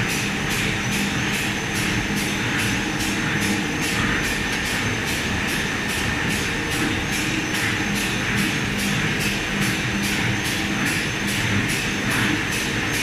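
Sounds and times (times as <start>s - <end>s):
laminating machine drone: 0.0s - 13.0s.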